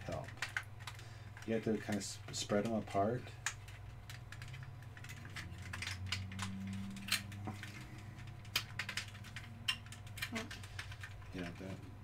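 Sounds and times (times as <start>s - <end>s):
plastic parts clicking and tapping: 0.0s - 11.8s
steady low hum: 0.0s - 12.0s.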